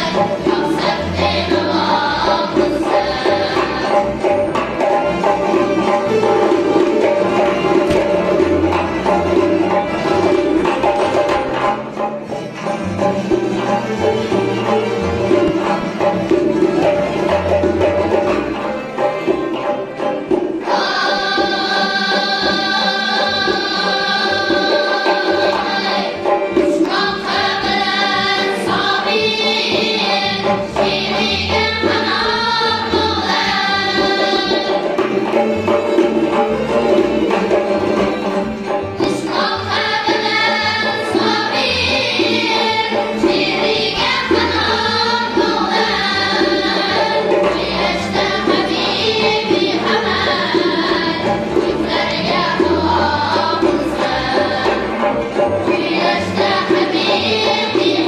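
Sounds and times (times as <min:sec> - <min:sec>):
boys' choir singing: 0:00.0 - 0:12.1, 0:20.4 - 0:58.0
frame drum: 0:00.0 - 0:58.0
plucked and bowed strings: 0:00.0 - 0:58.0.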